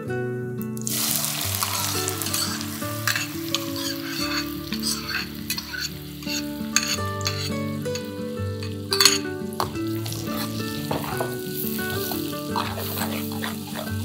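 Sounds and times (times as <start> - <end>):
onion frying in hot oil: 0.8 - 14.0.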